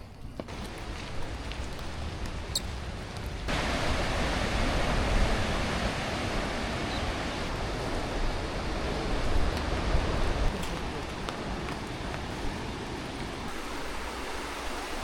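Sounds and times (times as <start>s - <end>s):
steady rushing noise: 0.5s - 15.0s.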